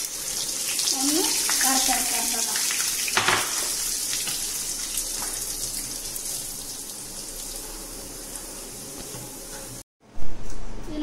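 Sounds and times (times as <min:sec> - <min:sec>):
semolina sizzling in a pan: 0:00.0 - 0:09.9.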